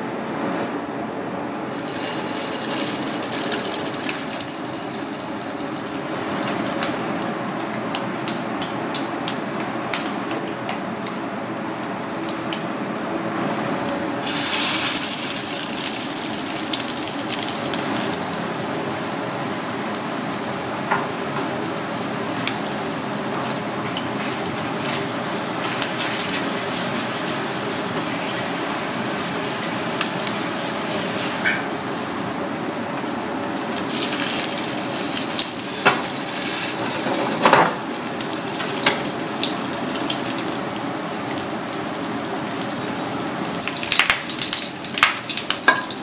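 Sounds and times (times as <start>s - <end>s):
patties sizzling in oil: 1.6s - 12.6s, 14.2s - 46.0s.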